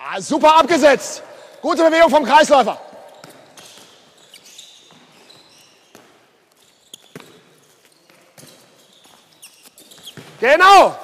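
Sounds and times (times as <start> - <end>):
shoes squeaking: 0.6 - 10.6
balls bouncing on hall floor: 0.6 - 11.0.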